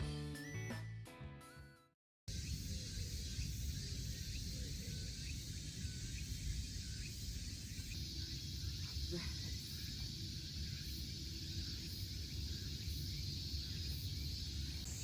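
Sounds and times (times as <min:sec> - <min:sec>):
high insect drone: 0:02.3 - 0:15.0.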